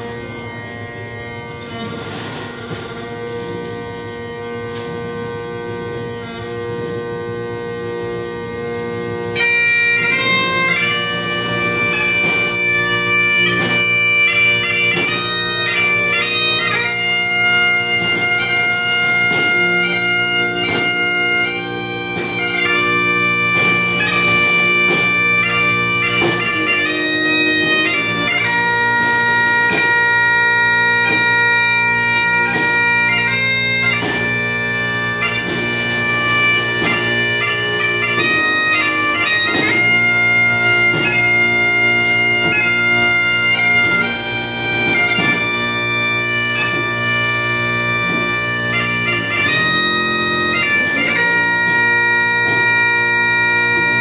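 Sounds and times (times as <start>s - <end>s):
bagpipe chanter tune: 0.0s - 54.0s
bagpipe drones humming: 0.0s - 54.0s.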